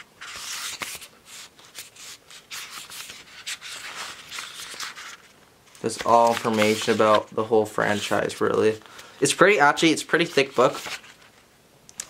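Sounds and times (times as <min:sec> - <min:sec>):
book pages flipping: 0:00.0 - 0:09.2, 0:10.1 - 0:11.4.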